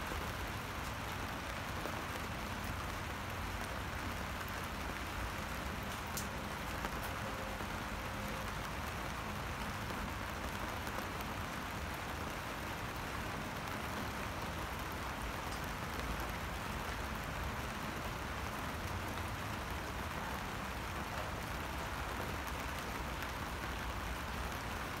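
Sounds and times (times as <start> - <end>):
rain falling on water: 0.0 - 25.0.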